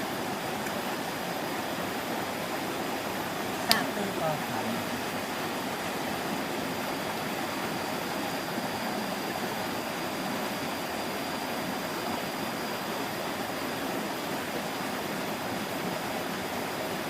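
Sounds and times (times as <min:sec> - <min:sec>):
faint high whine: 0:00.0 - 0:17.0
stream water flowing: 0:00.0 - 0:17.0.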